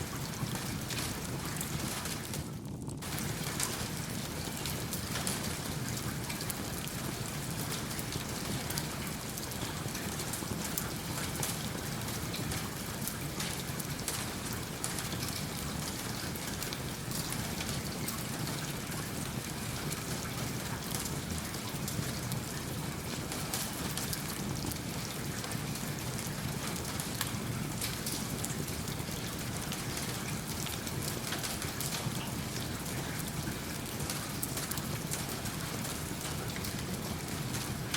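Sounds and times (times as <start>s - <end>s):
steady rain falling: 0.0s - 37.9s
wood fire crackling: 0.0s - 37.9s.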